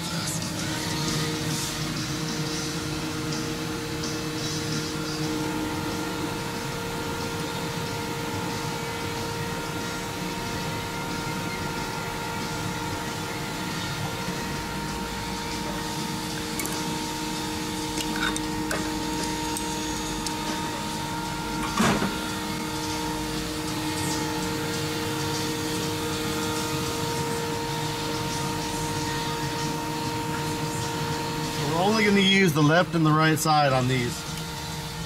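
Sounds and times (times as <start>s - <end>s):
shop machine hum and whine: 0.0s - 35.0s.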